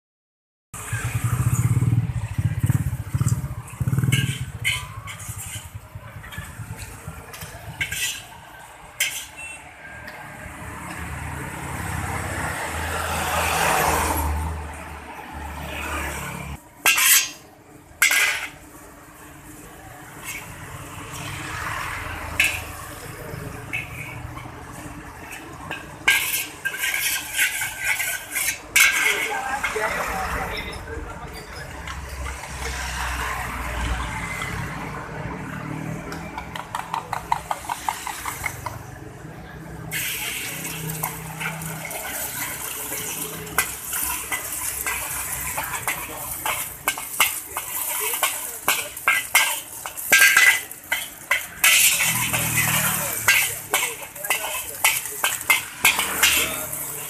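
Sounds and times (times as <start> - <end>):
spatula scraping wok: 0.8 - 39.2, 39.8 - 57.0
motorcycles passing: 0.8 - 57.0
truck passing: 0.8 - 57.0.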